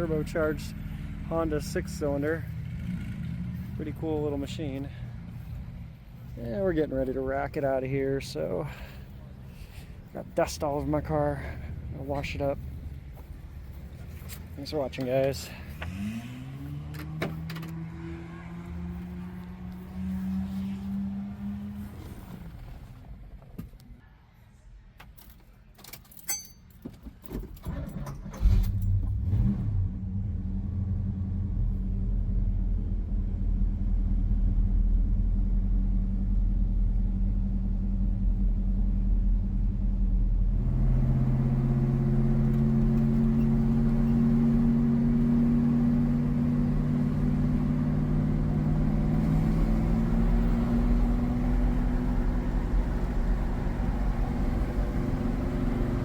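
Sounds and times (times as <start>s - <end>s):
car engine starting and running: 0.0s - 24.0s, 27.3s - 56.0s.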